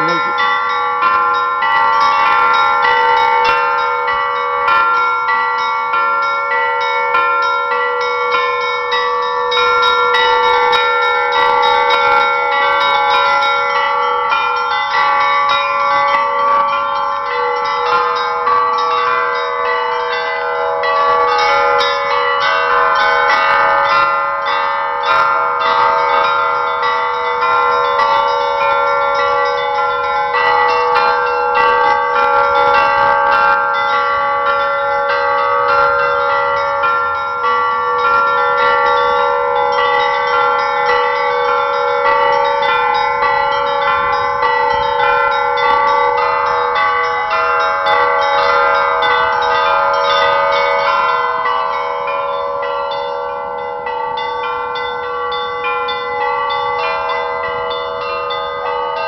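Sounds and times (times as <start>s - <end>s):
large bells ringing: 0.0s - 59.0s
small bells struck rapidly: 0.0s - 59.0s.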